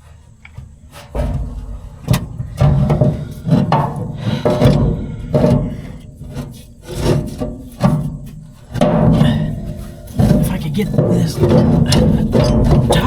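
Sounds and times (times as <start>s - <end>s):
heavy metal parts scraping: 0.0s - 13.0s.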